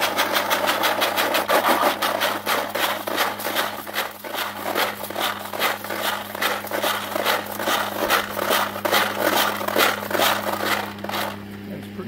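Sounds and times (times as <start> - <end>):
gravel and sand rattling: 0.0 - 11.5.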